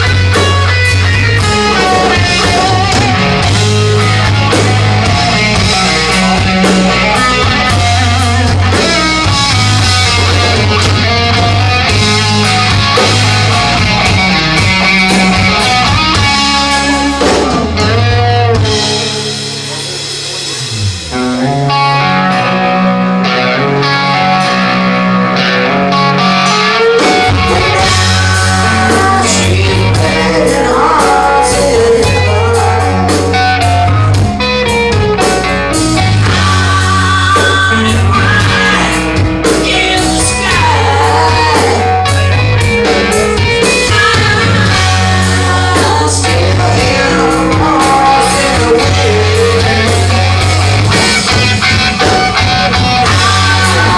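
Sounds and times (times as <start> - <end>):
electric guitar chords: 0.0 - 53.9
live hard rock band: 0.0 - 53.9.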